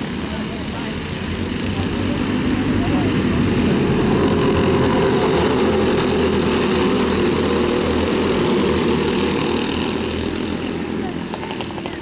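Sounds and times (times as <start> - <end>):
racing kart engines buzzing: 0.0 - 12.0.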